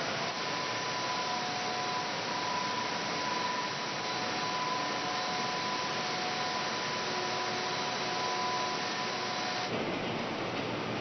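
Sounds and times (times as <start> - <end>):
faint high whine: 0.0 - 9.8.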